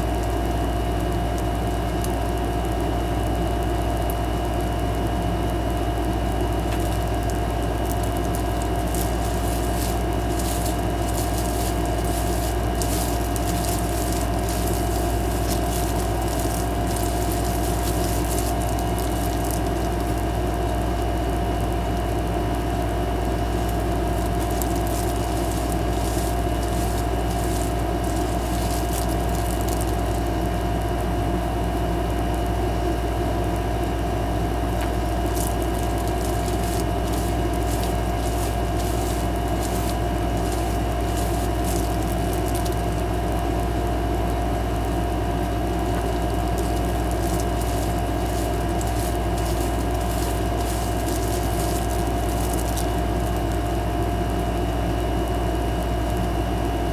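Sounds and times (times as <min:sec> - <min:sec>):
machine hum with whining tones: 0:00.0 - 0:56.9
faint crackles: 0:00.1 - 0:31.1, 0:34.6 - 0:56.4.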